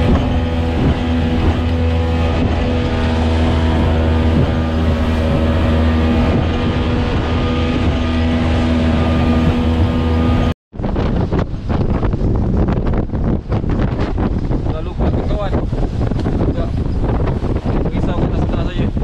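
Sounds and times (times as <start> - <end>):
outboard motor running: 0.0 - 19.0
wind buffeting microphone: 0.0 - 19.0.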